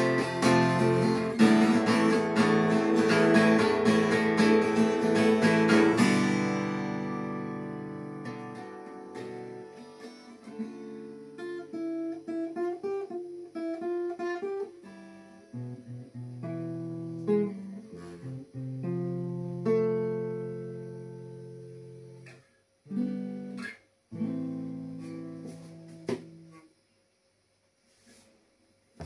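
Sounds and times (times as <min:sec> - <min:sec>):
acoustic guitar strummed chords: 0:00.0 - 0:26.7
picked guitar melody notes: 0:00.0 - 0:26.7.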